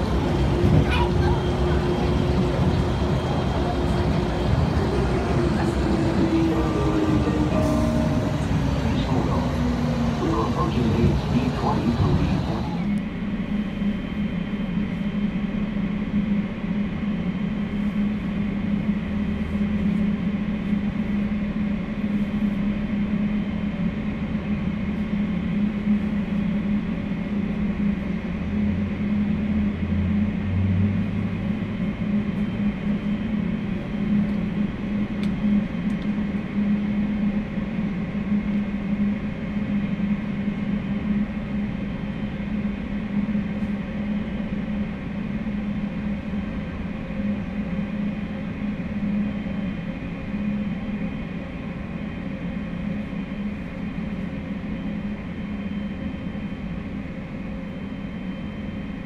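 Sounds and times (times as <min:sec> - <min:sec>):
jet aircraft droning hum: 0:00.0 - 0:59.0.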